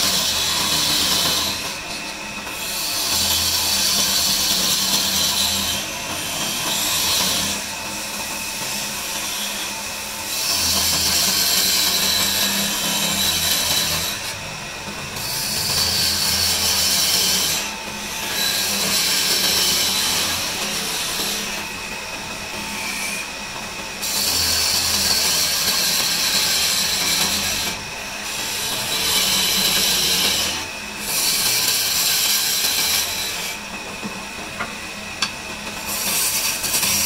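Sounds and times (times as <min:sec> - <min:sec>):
lathe motor hum: 0:00.0 - 0:37.0.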